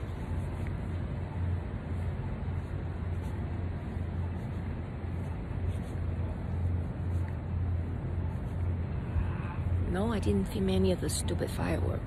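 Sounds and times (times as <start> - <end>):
city street noise: 0.0 - 12.0.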